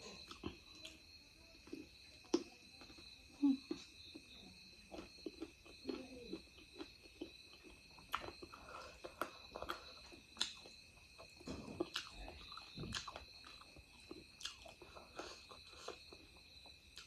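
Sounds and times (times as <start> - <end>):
person chewing with wet smacks: 0.0 - 17.0.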